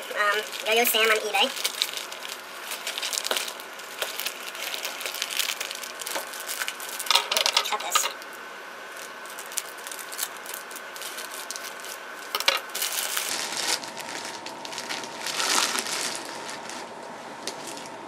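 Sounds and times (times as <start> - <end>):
plastic crinkling and rustling: 0.0 - 18.0.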